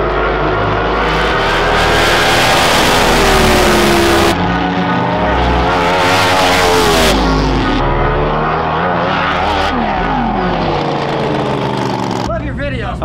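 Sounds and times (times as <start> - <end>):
boat engines revving: 0.0 - 13.0.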